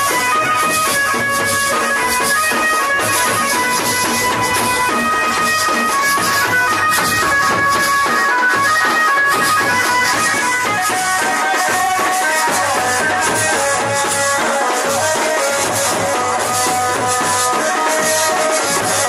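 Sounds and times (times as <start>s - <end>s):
folk melody of held notes: 0.0s - 19.0s
steady drum beat: 0.0s - 19.0s.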